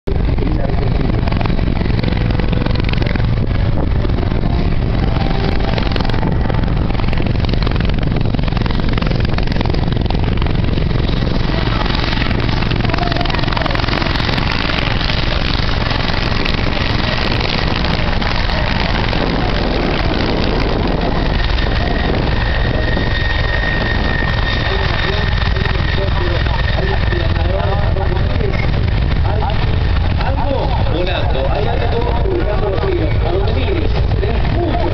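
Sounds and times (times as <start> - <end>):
helicopter rotor and engines: 0.0 - 34.9.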